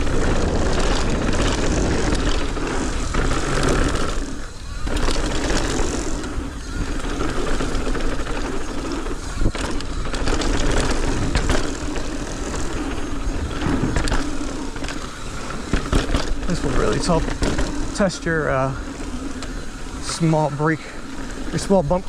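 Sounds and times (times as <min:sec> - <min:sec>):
bike knocks and rattles: 0:00.0 - 0:22.0
tyres rumbling on dirt: 0:00.0 - 0:22.0.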